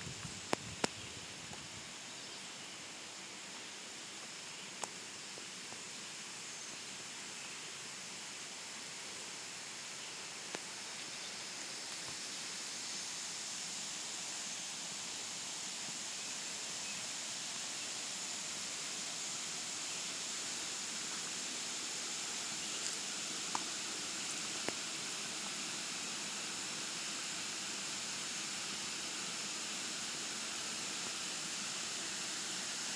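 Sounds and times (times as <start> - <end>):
rush of falling water: 0.0 - 32.9.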